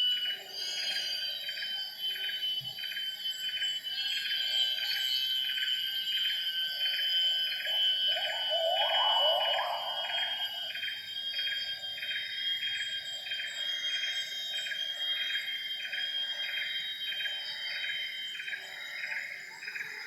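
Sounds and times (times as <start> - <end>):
pulsing insect chorus: 0.0 - 20.0.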